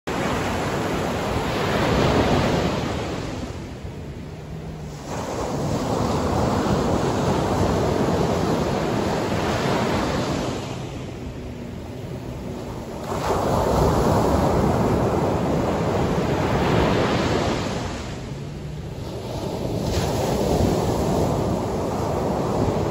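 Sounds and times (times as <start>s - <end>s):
waves breaking on sandy beach: 0.1s - 22.9s.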